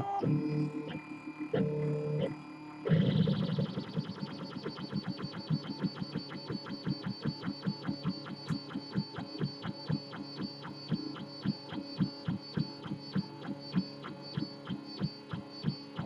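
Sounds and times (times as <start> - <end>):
steady printer hum: 0.0 - 16.0.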